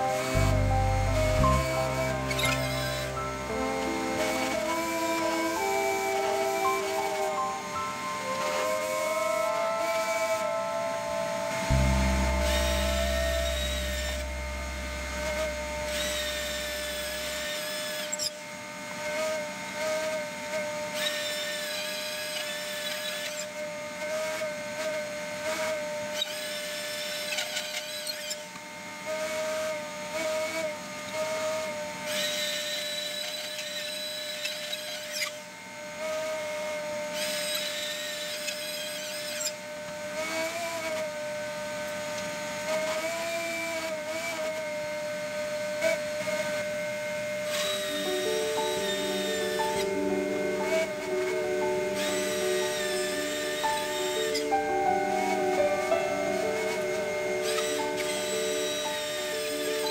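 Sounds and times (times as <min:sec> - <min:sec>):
electric drill cutting concrete: 0:00.0 - 0:54.6, 0:55.2 - 0:59.9.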